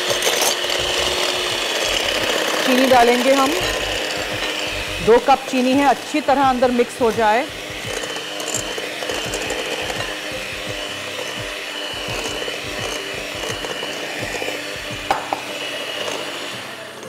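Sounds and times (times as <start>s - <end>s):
electric hand mixer whisking: 0.0s - 17.0s.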